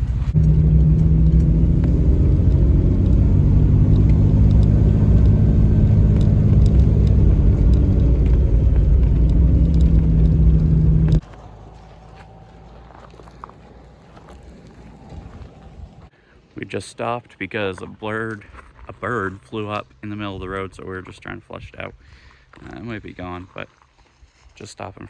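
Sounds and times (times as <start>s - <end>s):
truck engine and road rumble: 0.0s - 24.5s.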